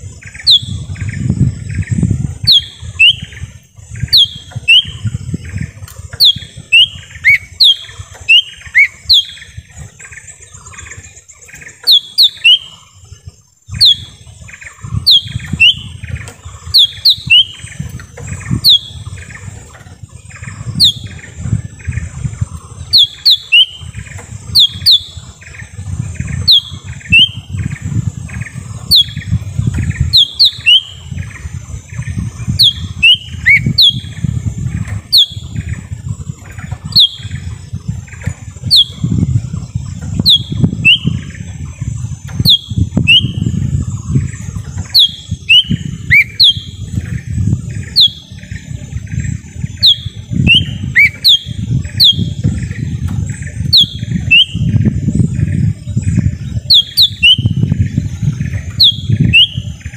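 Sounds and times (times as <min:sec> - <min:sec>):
low rumble: 0:00.0 - 0:59.9
bird whistled calls: 0:00.1 - 0:13.1, 0:13.7 - 0:59.9.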